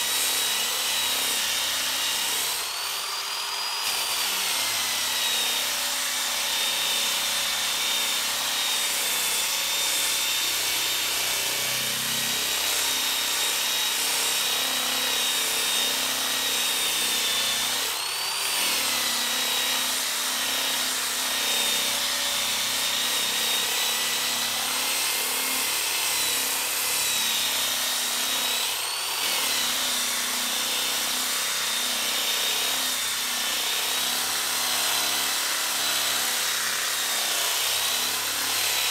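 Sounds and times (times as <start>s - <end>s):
drill motor whine: 0.0s - 38.9s.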